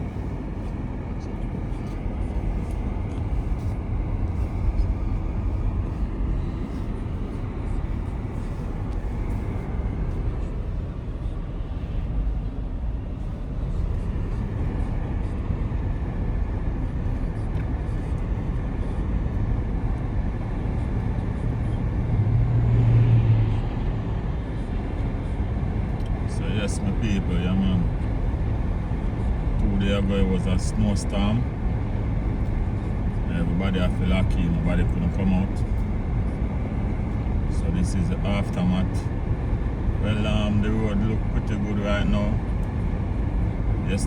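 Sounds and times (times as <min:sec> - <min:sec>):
car driving rumble: 0:00.0 - 0:44.0
low hum: 0:00.0 - 0:44.0.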